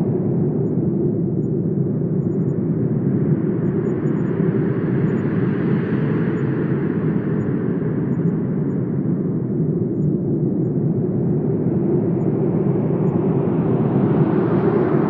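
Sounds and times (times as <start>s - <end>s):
wind blowing with deep rumble: 0.0s - 15.0s.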